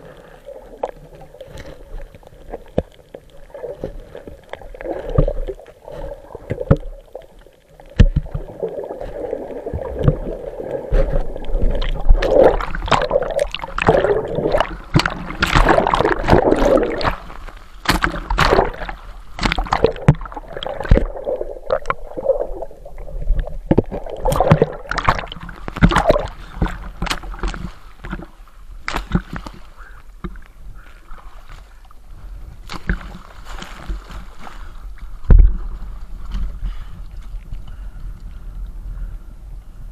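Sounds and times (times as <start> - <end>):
water churning underwater: 0.0 - 39.9.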